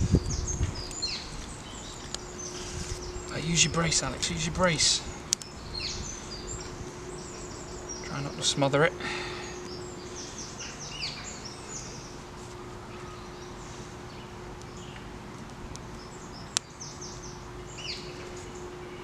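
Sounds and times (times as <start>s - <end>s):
birds chirping: 0.0s - 19.0s
faint steady hum: 0.0s - 19.0s.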